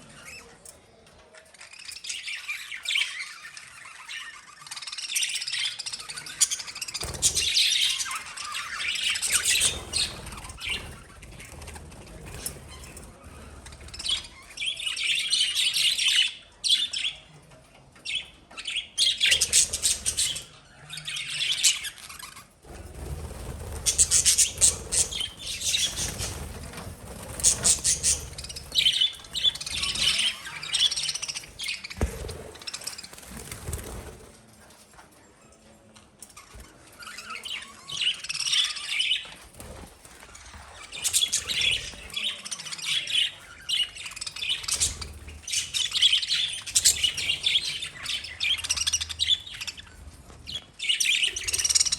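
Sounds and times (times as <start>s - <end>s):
lovebirds chirping: 1.6s - 17.3s, 18.1s - 34.0s, 40.4s - 51.9s.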